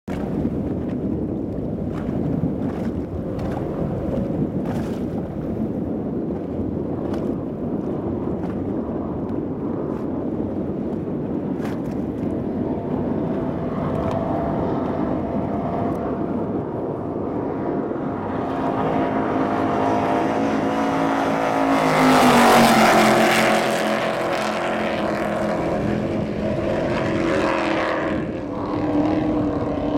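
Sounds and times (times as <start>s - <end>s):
powerboat engines passing by: 0.1s - 29.9s.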